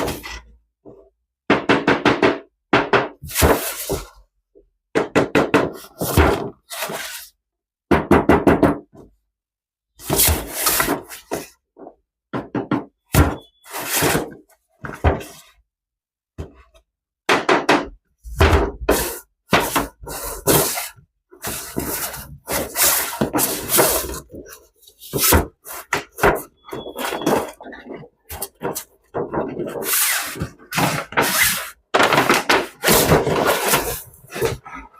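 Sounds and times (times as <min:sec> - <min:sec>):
hard objects knocking and clattering: 0:00.0 - 0:06.7, 0:10.1 - 0:15.5, 0:16.4 - 0:34.9.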